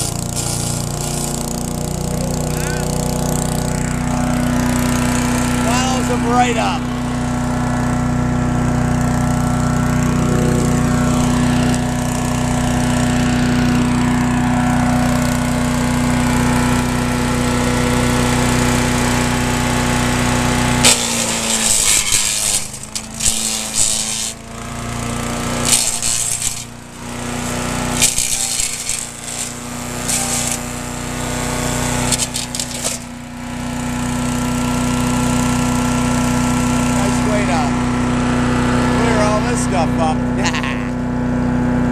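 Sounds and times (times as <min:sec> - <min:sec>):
chipper-shredder engine running: 0:00.0 - 0:41.9.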